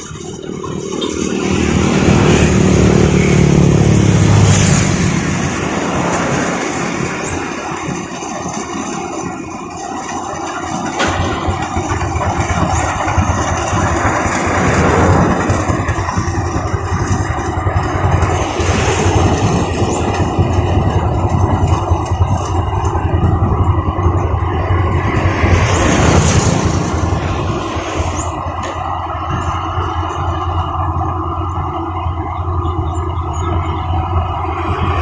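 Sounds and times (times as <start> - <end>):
combine harvester engine running: 0.0 - 35.0.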